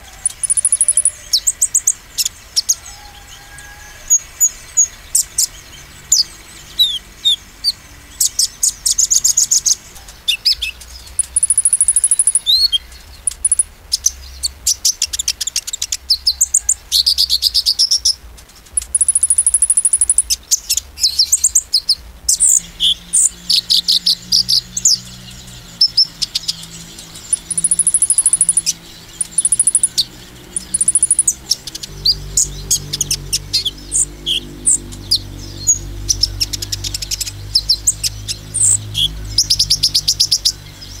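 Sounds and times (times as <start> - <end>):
bird twittering and trilling: 0.0 - 41.0.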